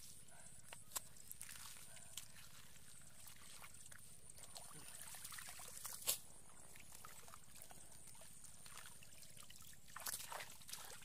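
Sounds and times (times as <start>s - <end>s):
hands squelching in wet mud: 0.6s - 11.0s
small water splashes and drips: 0.9s - 11.0s.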